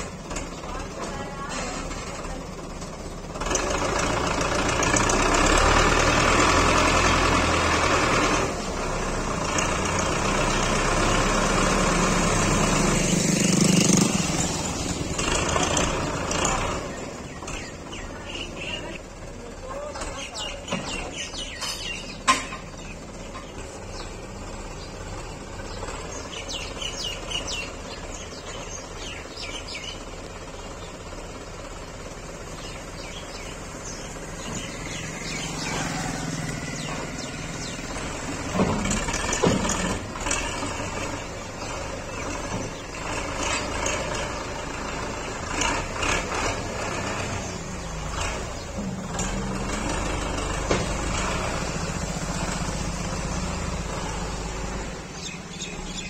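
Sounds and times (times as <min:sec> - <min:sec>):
birds chirping: 0:00.0 - 0:56.0
tractor diesel engine running: 0:00.0 - 0:56.0.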